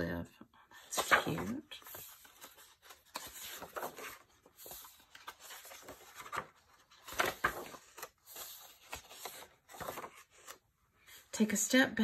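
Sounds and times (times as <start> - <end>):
paper pages turning: 0.8 - 10.7.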